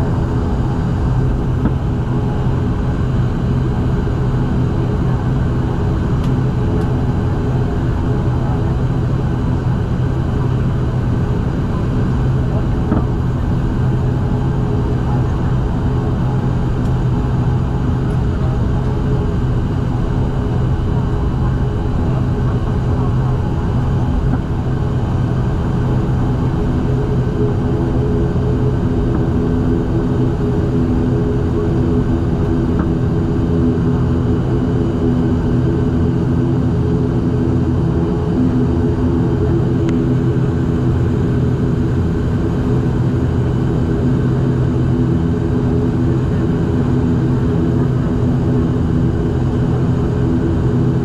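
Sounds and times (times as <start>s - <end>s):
turboprop engines droning: 0.0s - 51.0s.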